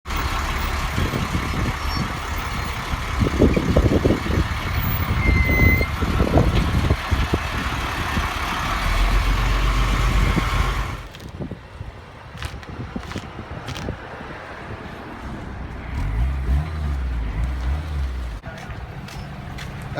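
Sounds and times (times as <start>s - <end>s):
vehicle engine rumbling with knocks: 0.1s - 14.3s, 15.4s - 19.9s.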